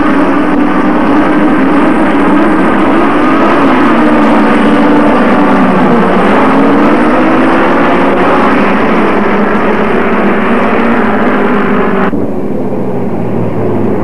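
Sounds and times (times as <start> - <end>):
model car engines buzzing: 0.0 - 14.0.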